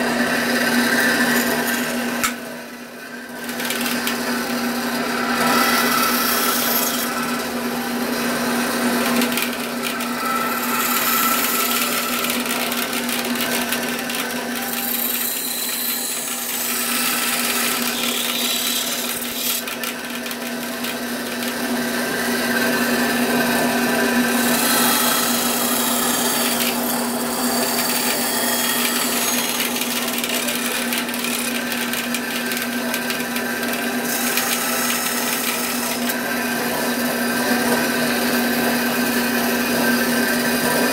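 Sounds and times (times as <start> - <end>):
bandsaw cutting: 0.0 - 40.9.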